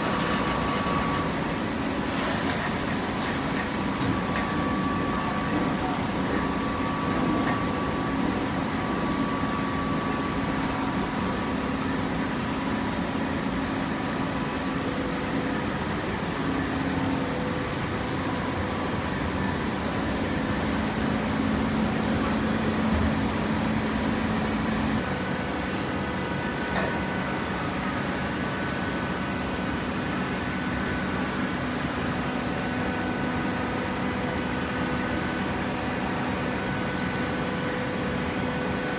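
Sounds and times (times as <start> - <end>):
baling press machine hum: 0.0 - 38.9.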